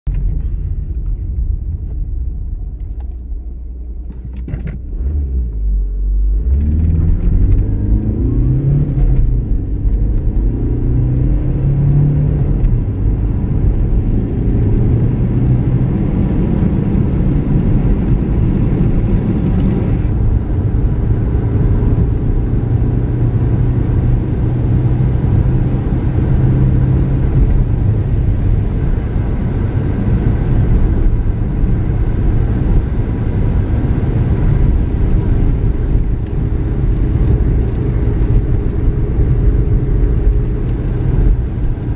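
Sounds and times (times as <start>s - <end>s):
diesel engine accelerating: 0.1s - 41.9s
road noise: 0.1s - 41.9s.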